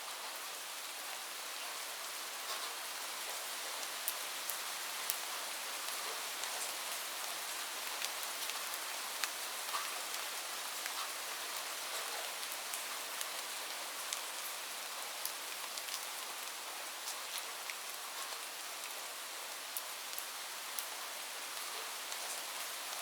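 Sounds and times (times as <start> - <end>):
light rain hiss: 0.0 - 23.0.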